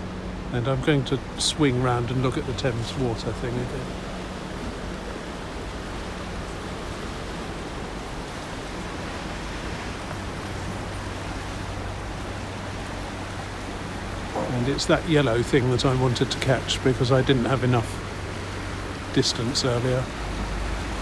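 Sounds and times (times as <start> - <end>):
low steady hum: 0.0 - 21.0
river rushing: 0.0 - 21.0.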